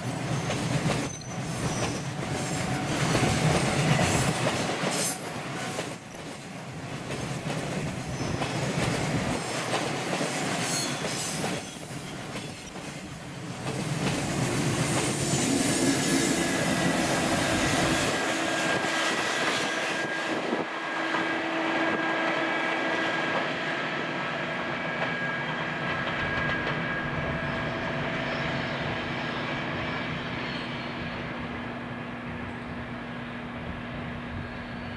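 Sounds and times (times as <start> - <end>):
train clanks: 0.0 - 31.4
train wheels rumbling: 0.0 - 34.9.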